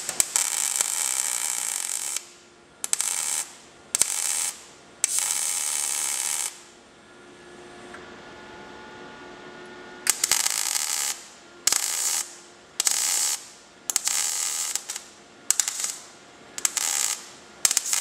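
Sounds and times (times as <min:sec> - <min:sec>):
welding arc crackling: 0:00.0 - 0:06.8, 0:10.1 - 0:18.0.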